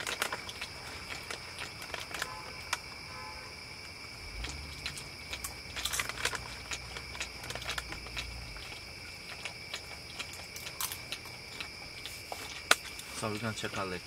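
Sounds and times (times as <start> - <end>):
chips crunching: 0.0 - 3.1, 3.9 - 13.9
snack bag rustling: 0.0 - 13.9
crickets trilling: 0.0 - 14.0.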